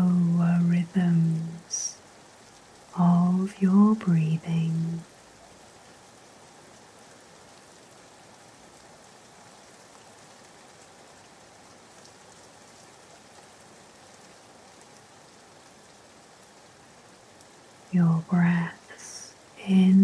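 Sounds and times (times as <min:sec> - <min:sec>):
faint raindrop patter: 0:00.0 - 0:20.0
soft rain hiss: 0:00.0 - 0:20.0.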